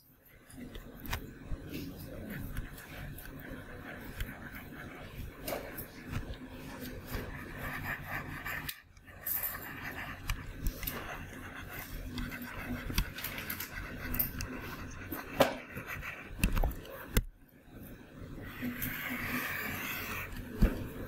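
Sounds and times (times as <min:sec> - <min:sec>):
faint room noise: 0:00.0 - 0:21.0
stylus tapping and scraping screen: 0:00.3 - 0:17.4, 0:18.3 - 0:21.0.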